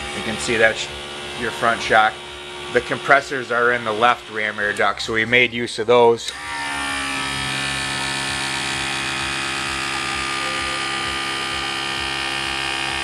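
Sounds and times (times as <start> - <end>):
air compressor whining: 0.0 - 13.0.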